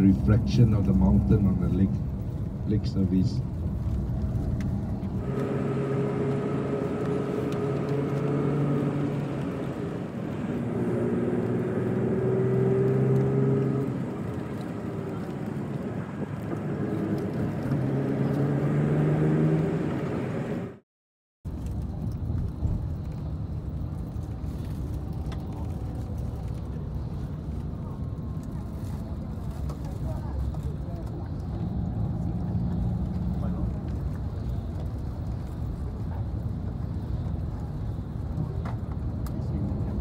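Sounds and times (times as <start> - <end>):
bus engine and road noise: 0.0 - 20.8, 21.5 - 40.0.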